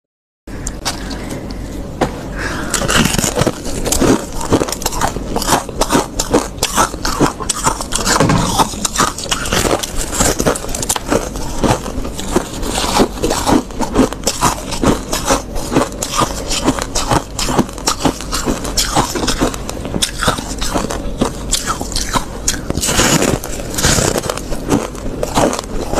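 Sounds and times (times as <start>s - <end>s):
faint low hum: 0.5s - 25.9s
frost crunching being chewed: 2.5s - 25.9s.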